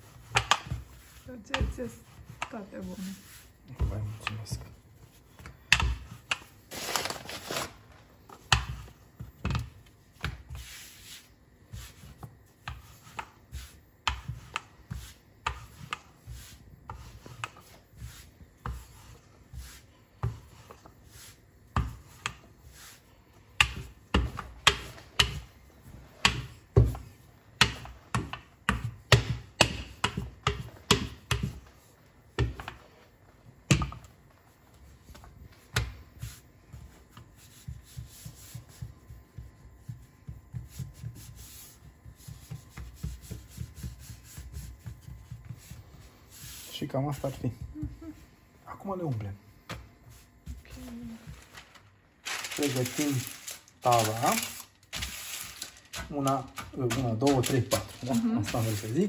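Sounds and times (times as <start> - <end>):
dough rubbing scrapes: 0.0 - 51.5, 52.2 - 59.0.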